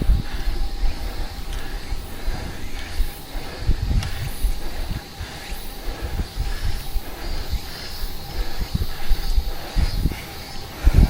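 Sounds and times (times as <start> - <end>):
low rumble and thumps: 0.0 - 10.2
wind noise on microphone: 0.0 - 11.0.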